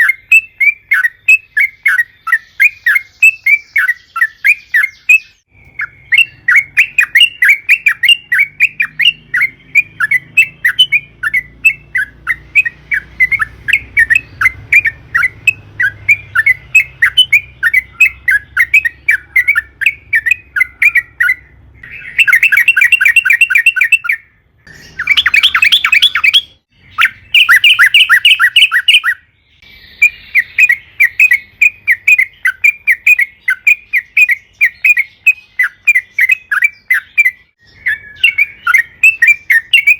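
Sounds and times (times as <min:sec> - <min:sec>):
bird chattering and trilling: 0:00.0 - 0:39.9.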